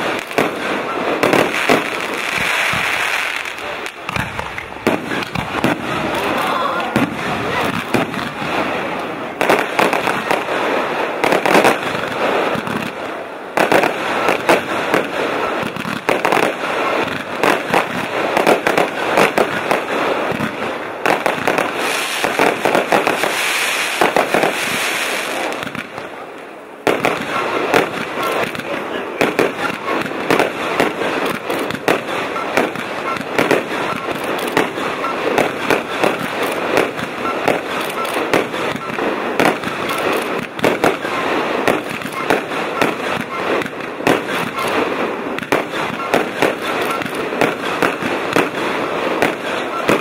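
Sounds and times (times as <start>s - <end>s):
fireworks shells bursting: 0.0s - 26.1s, 26.8s - 50.0s
hissing crackle: 0.0s - 50.0s.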